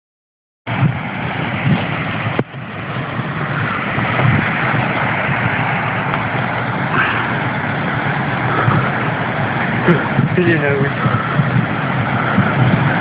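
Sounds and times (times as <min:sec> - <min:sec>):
rushing falling water: 0:00.7 - 0:13.0.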